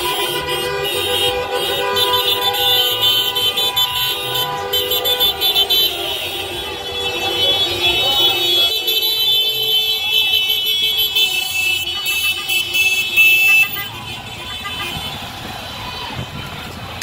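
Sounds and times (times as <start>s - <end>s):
car horns honking: 0.0s - 16.8s
traffic rumble: 0.0s - 17.0s.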